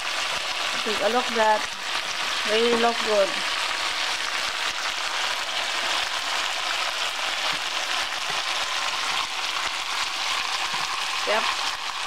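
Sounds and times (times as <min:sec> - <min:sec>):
stir-fry sizzling in skillet: 0:00.0 - 0:12.0.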